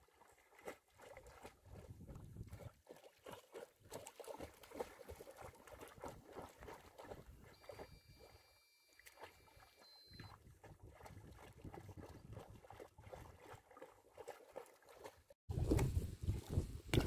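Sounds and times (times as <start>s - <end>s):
pool water splashing: 0.0s - 1.8s, 2.7s - 11.7s, 12.5s - 15.8s.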